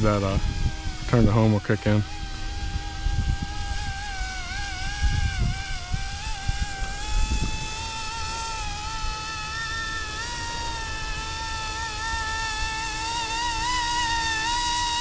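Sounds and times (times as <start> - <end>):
rc helicopter rotors whining: 0.0 - 15.0
wind buffeting microphone: 0.0 - 15.0.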